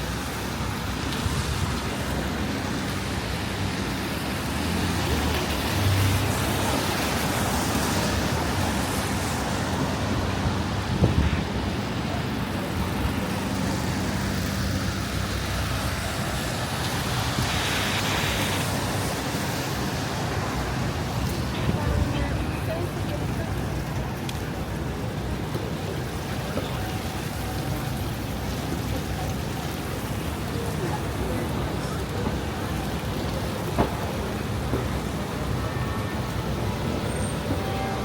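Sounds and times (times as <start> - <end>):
engine hum of passing vehicles: 0.0 - 38.0
tyres on wet road: 0.0 - 38.0.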